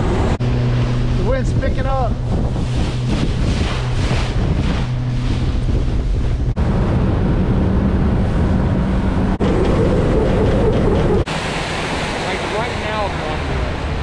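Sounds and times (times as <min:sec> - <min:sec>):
outboard motor running: 0:00.0 - 0:14.0
water rushing along hull: 0:00.0 - 0:14.0
wind buffeting microphone: 0:00.0 - 0:14.0.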